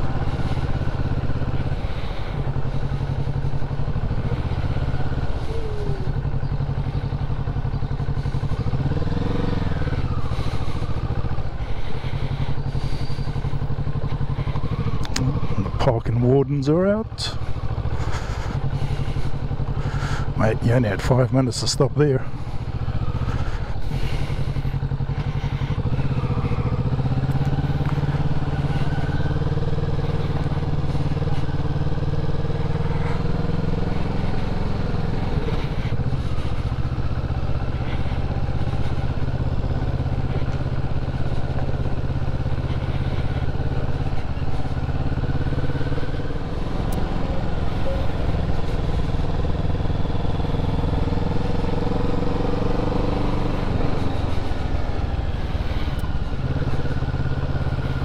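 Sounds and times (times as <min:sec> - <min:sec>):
vehicle engine cruising: 0:00.0 - 0:58.0.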